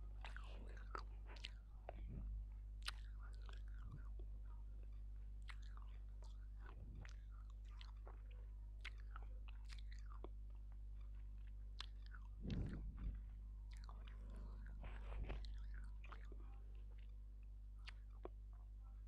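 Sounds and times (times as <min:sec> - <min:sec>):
close chewing mouth sounds: 0:00.0 - 0:19.0
steady low hum: 0:00.0 - 0:19.0.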